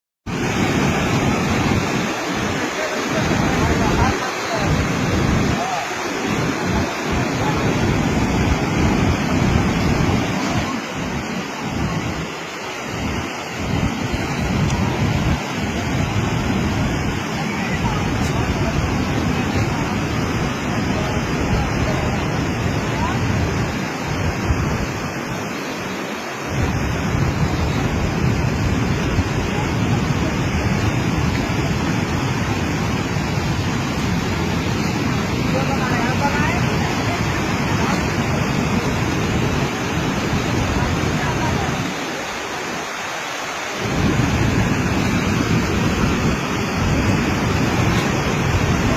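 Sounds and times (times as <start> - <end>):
wind buffeting microphone: 0.3 - 42.5, 43.7 - 48.9
floodwater rushing: 0.3 - 48.9.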